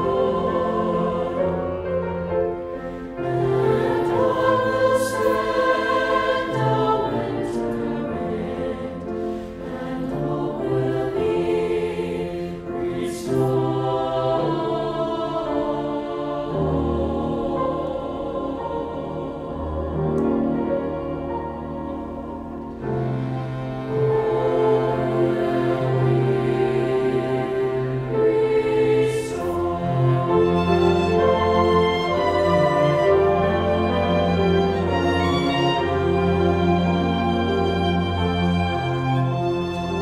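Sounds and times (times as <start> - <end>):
cello: 0.0 - 40.0
mixed choir singing: 0.0 - 40.0
piano: 0.0 - 40.0.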